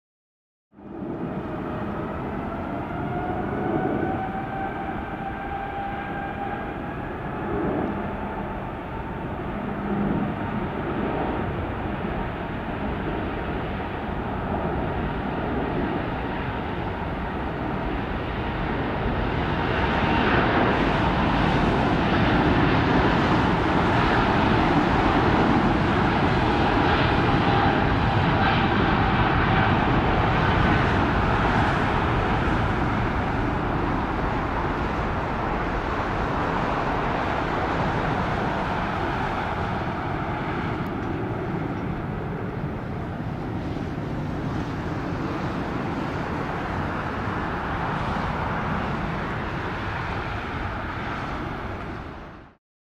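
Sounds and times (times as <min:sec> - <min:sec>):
jet engines roaring: 0:00.8 - 0:52.6.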